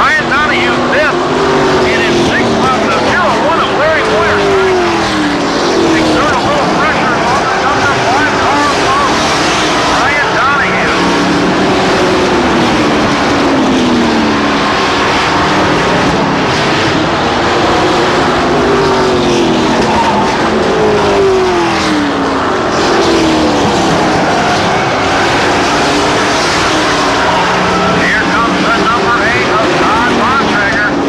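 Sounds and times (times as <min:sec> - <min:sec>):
racing truck engines: 0:00.0 - 0:31.0.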